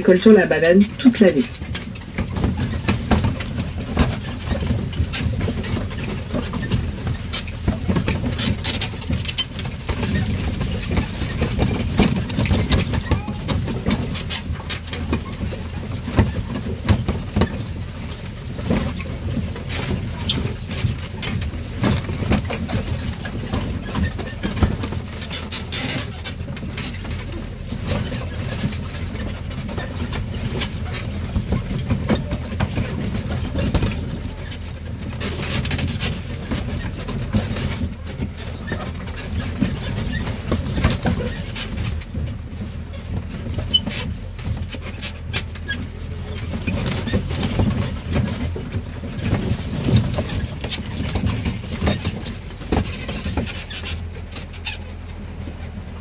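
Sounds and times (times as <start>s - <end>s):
carriage rattling and knocking: 0.0s - 56.0s
train rumbling on rough track: 0.0s - 56.0s.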